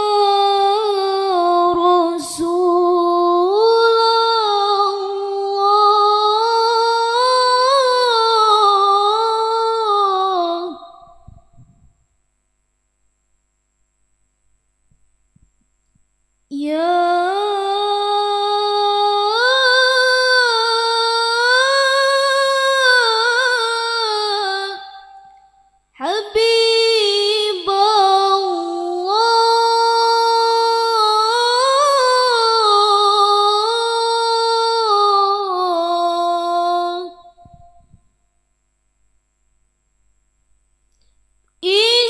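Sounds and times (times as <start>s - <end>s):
woman singing unaccompanied: 0.0s - 11.8s, 16.5s - 38.0s, 41.6s - 42.0s.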